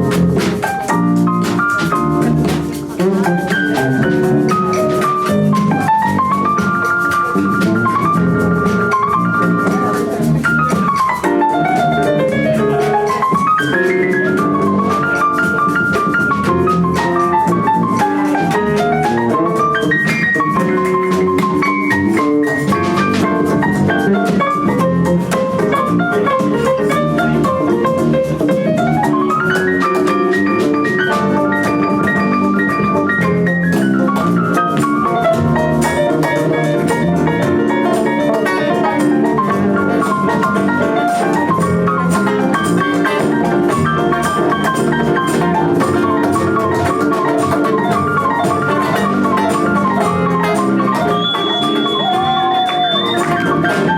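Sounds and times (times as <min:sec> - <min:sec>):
driving drum beat: 0:00.0 - 0:53.9.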